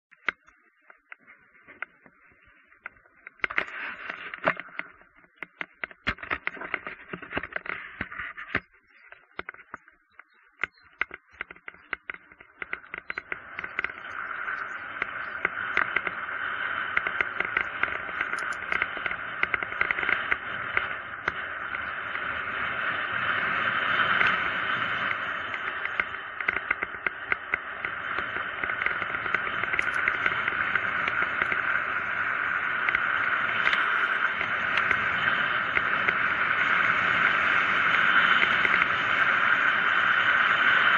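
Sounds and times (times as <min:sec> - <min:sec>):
bike clicks and rattles: 0:00.1 - 0:40.9
wind and tyre noise: 0:00.1 - 0:40.9.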